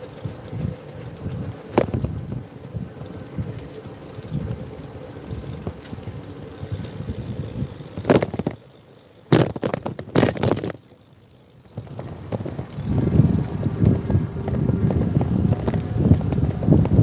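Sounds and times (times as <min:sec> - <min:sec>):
motorcycle engine rumble: 0:00.0 - 0:17.0
wind noise on microphone: 0:00.2 - 0:08.6, 0:09.3 - 0:10.8, 0:11.7 - 0:17.0.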